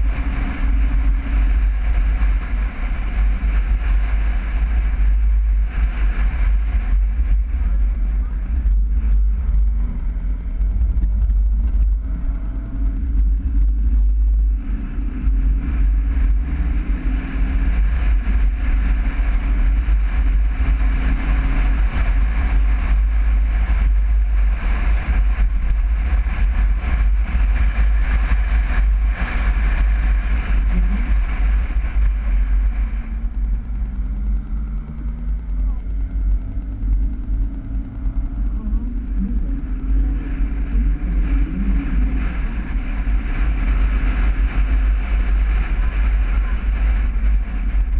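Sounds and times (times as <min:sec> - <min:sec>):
road and wind noise: 0:00.0 - 0:47.9
vehicle engine accelerating: 0:00.0 - 0:47.9.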